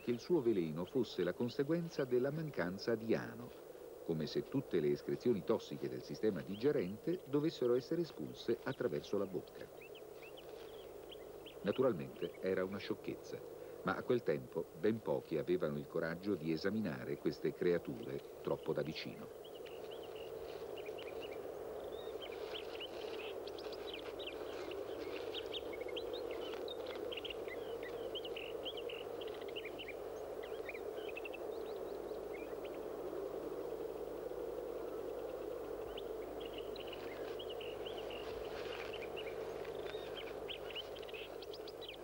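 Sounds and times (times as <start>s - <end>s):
low background rush: 0.0s - 42.0s.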